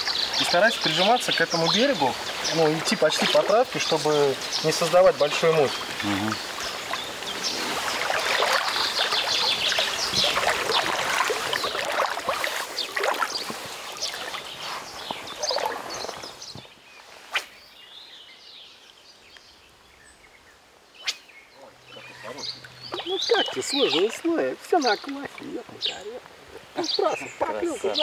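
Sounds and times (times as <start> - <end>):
wading through river water: 0.0 - 16.7, 21.7 - 28.0.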